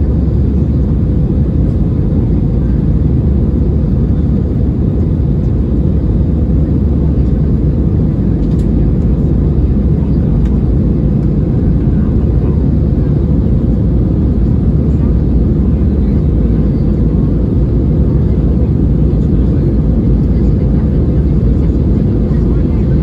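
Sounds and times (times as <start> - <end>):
airplane cabin low rumble: 0.0 - 23.0.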